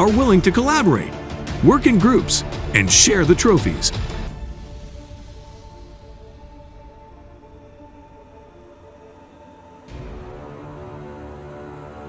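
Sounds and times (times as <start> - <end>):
dark low background music: 0.0 - 12.0.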